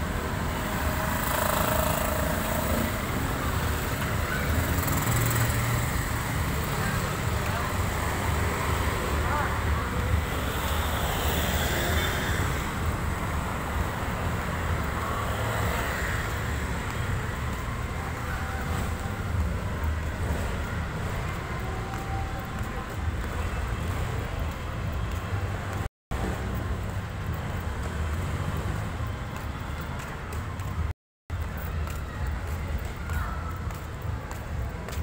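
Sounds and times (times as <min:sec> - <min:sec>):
cars and motorcycles passing: 0:00.0 - 0:35.0.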